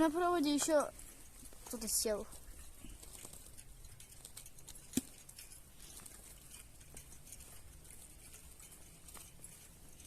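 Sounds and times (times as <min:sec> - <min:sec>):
faint rustling of handling: 0:00.0 - 0:10.0.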